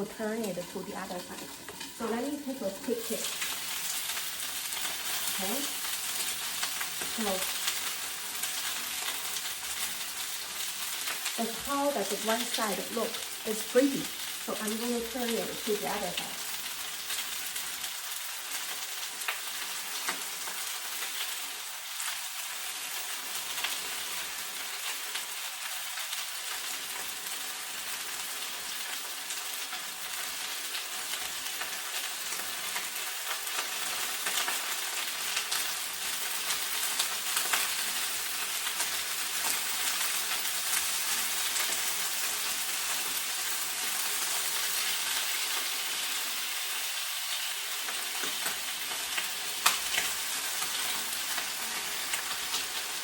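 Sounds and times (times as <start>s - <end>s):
chicken wings sizzling in oil: 0.0s - 53.0s.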